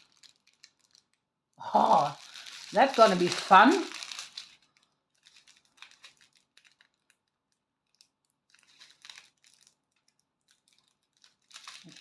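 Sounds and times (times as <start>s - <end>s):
small plastic bags crinkling: 0.0s - 12.0s.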